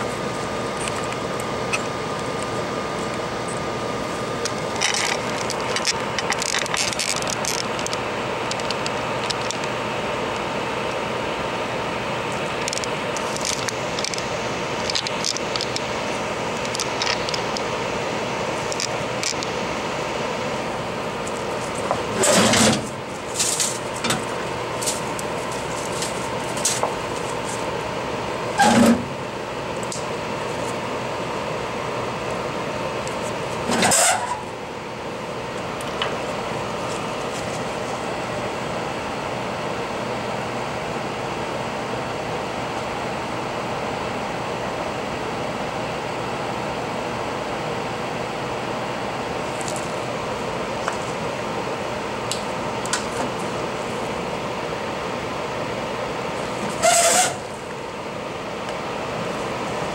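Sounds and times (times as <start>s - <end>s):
fan-like hiss with hum: 0.0s - 59.9s.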